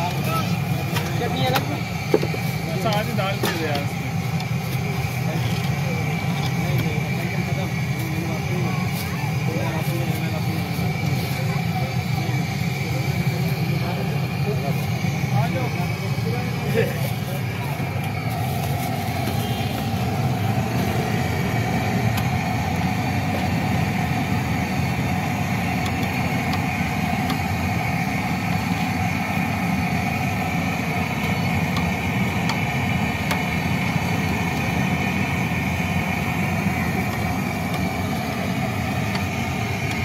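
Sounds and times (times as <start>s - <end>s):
engine-like mechanical rumble: 0.0s - 40.0s.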